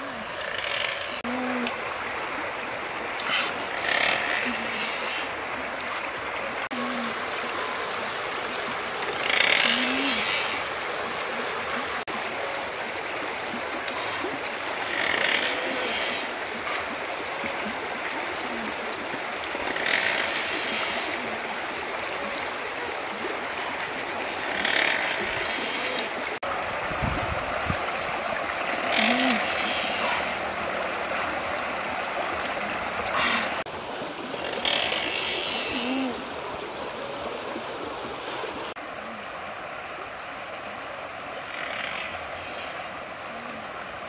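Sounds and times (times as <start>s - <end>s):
river flowing: 0.0s - 44.0s.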